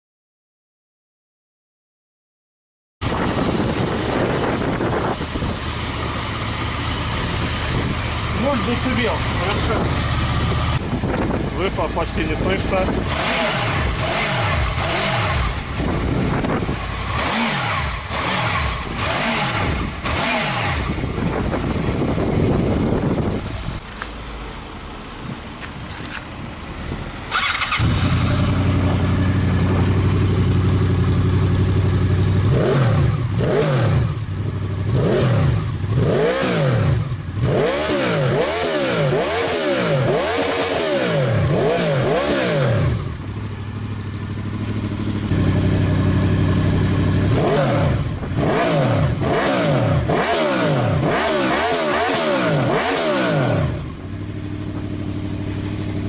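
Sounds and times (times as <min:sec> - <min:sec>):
motorcycle engine idling and revving: 0:03.0 - 0:56.0.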